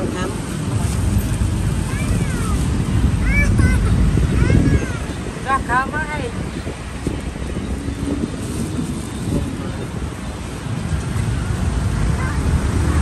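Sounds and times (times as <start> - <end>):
low rumble of passing traffic: 0.0 - 13.0
wind buffeting microphone: 0.0 - 13.0.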